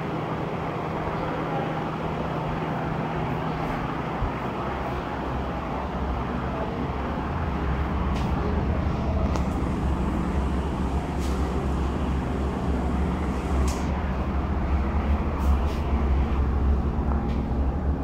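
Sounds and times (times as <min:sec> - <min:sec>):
background rumble and hiss: 0:00.0 - 0:18.0
low hum: 0:00.0 - 0:18.0.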